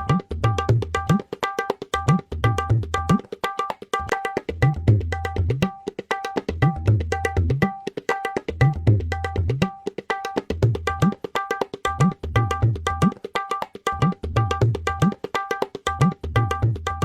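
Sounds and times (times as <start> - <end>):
tabla playing: 0.0 - 17.0.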